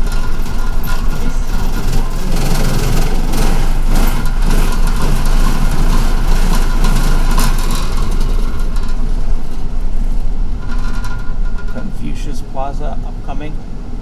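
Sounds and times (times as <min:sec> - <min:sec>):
small rattles: 0:00.0 - 0:12.1
bus engine rumble: 0:00.0 - 0:14.0.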